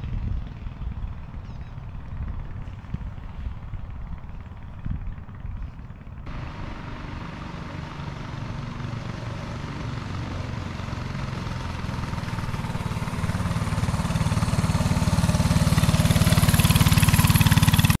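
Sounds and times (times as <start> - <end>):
mini bike engine running: 0.0 - 18.0.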